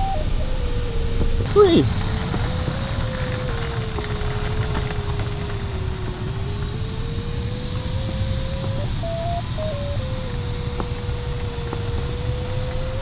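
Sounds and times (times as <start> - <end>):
airflow rushing over cockpit: 1.5 - 13.0.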